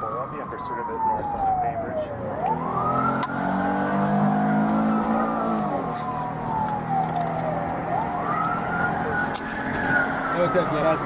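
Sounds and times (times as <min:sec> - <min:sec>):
police siren wailing: 0:00.0 - 0:11.0
car engine running hard: 0:01.8 - 0:11.0.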